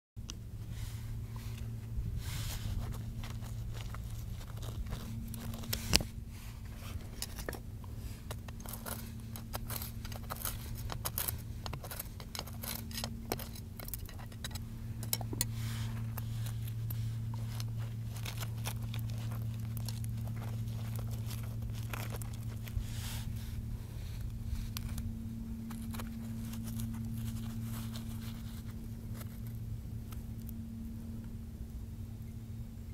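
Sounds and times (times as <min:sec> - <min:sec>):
steady low hum: 0:00.2 - 0:32.9
metal rod scraping rock: 0:00.8 - 0:30.2.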